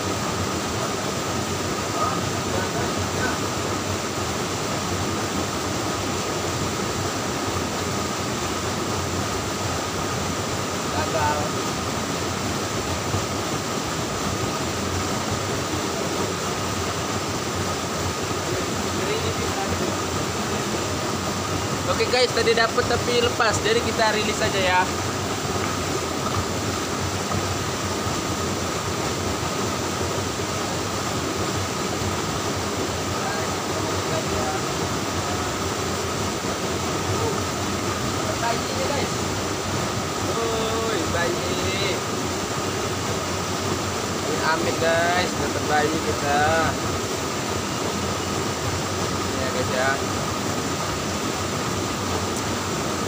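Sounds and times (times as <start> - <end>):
stream water running over rocks: 0.0 - 53.0.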